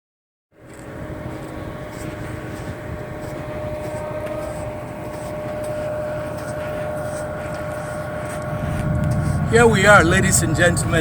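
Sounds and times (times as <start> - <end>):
vehicle road and engine rumble: 0.5 - 11.0
steady high whine: 0.6 - 11.0.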